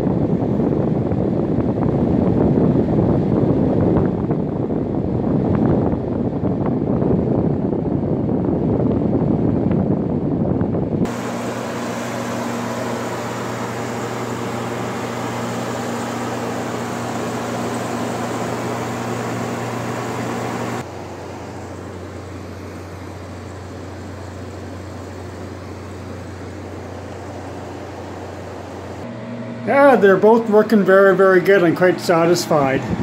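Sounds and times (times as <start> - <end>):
air conditioner fan rushing: 0.0 - 33.0
low motor hum: 0.0 - 33.0.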